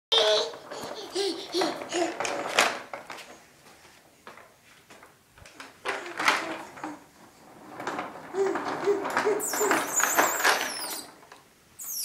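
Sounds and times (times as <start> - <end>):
plastic wheels rolling on tile: 0.1 - 12.0.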